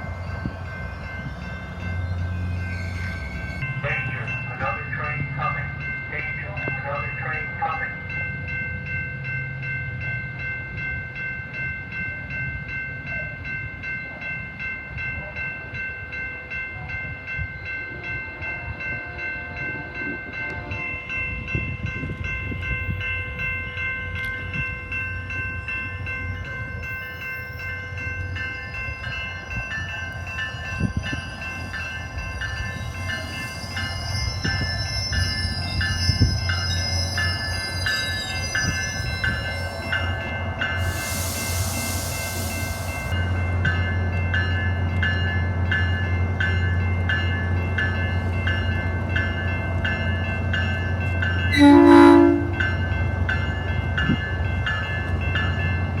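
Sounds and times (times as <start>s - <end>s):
train rumbling past: 0.0s - 56.0s
warning bell ringing: 0.0s - 56.0s.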